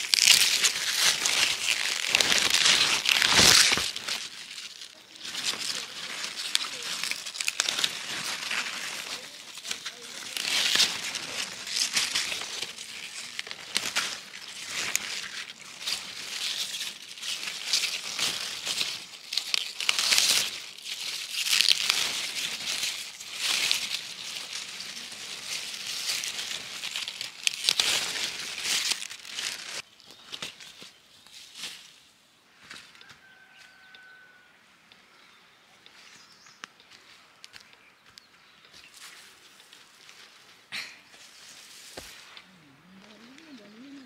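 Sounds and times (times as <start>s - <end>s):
leaves rustling as picked: 0.0s - 34.0s, 35.8s - 44.0s.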